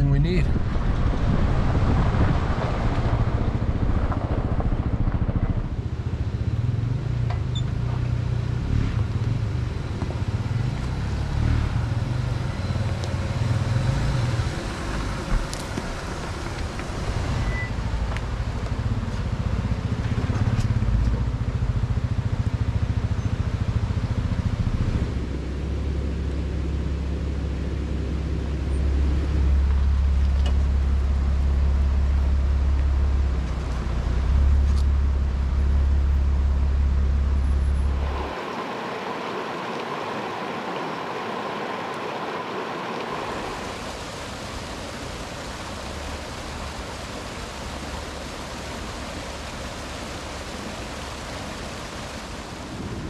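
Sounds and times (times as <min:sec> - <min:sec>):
engine running low hum: 0:00.0 - 0:53.0.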